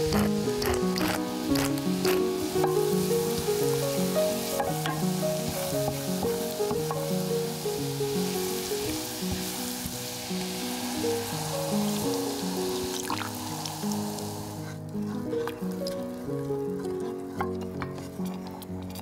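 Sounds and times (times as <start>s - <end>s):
butter sizzling in a saucepan: 0.0s - 18.3s
background music: 0.0s - 19.0s
wooden spoon stirring: 0.0s - 19.0s.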